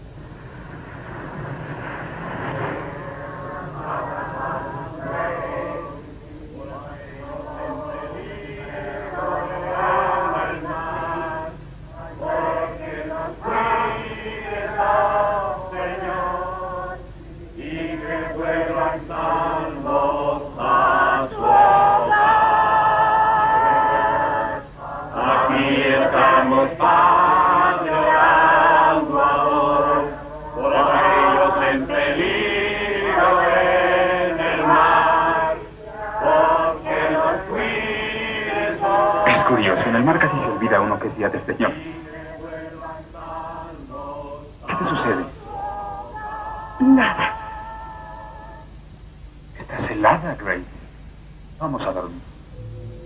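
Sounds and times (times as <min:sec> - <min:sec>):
choir singing a hymn: 0:01.3 - 0:48.8.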